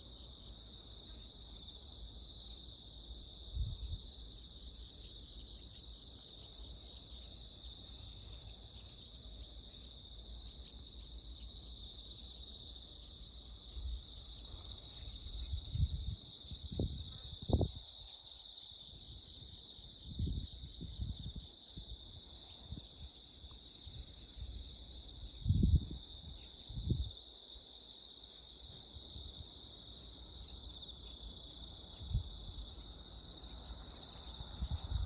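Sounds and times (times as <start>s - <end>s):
insects chirping chorus: 0.0s - 35.0s.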